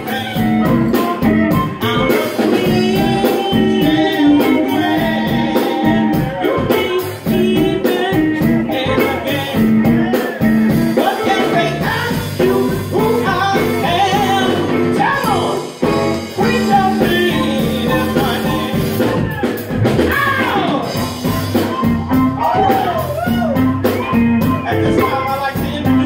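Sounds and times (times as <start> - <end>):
blues band playing: 0.0 - 26.0
person singing: 0.0 - 26.0.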